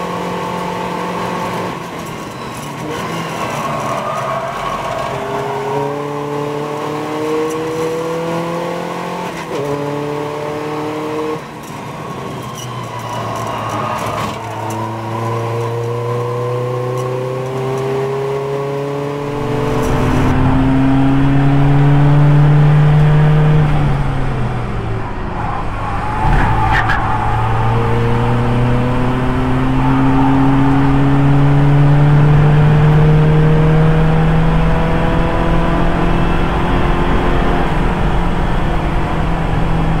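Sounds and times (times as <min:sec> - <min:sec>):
race car engine pulling hard: 0:00.0 - 0:40.0.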